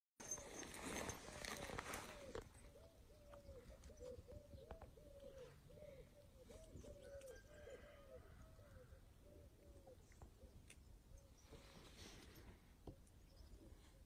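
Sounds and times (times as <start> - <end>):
bird cooing: 0.3 - 11.8.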